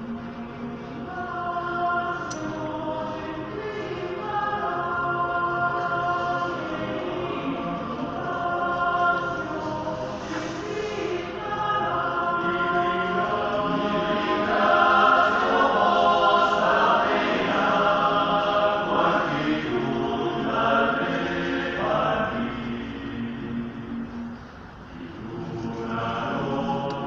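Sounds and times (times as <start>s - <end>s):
male choir singing: 0.0s - 27.0s.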